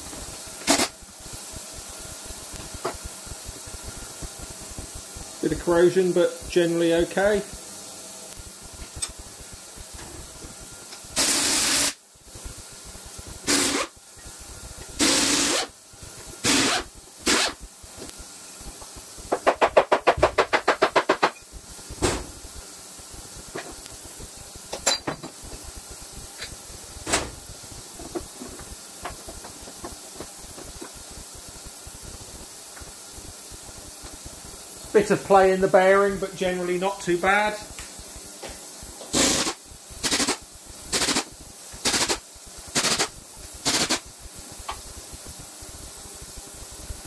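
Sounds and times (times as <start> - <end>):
compressed air hiss: 0.0 - 47.0.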